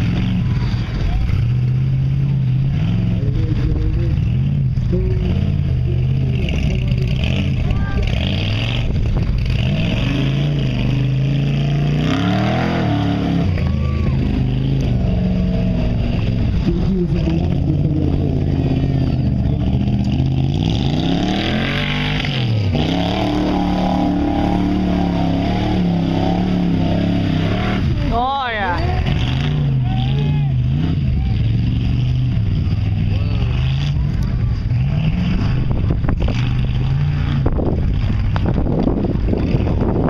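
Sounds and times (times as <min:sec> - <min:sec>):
off-road buggy engine revving: 0:00.0 - 0:40.0.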